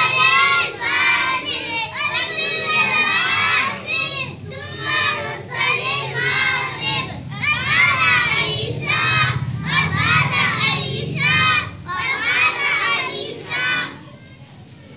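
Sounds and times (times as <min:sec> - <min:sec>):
boys reciting in unison: 0:00.0 - 0:14.9.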